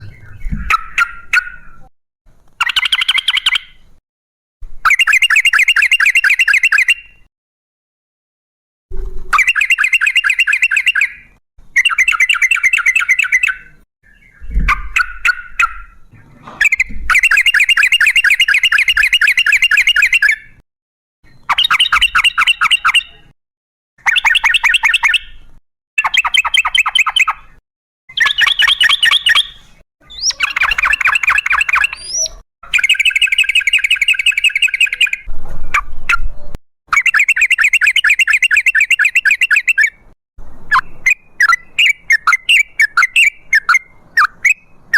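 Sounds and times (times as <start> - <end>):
bird chattering song: 0.0 - 1.9, 2.6 - 3.8, 4.8 - 7.3, 9.3 - 20.6, 21.2 - 23.3, 24.0 - 44.9.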